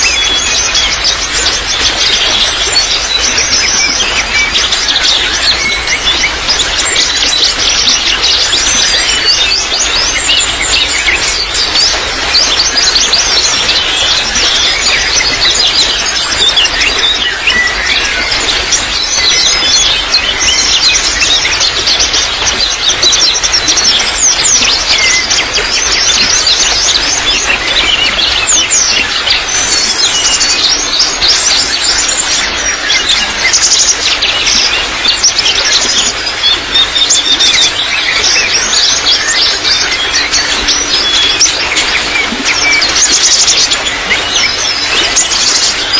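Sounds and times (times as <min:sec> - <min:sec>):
small birds chirping and twittering: 0:00.0 - 0:45.9
trickle of running water: 0:00.0 - 0:45.9.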